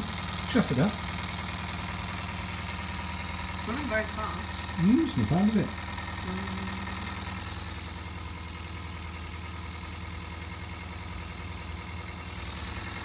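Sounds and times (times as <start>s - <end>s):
model steam engine running fast: 0.0s - 13.0s.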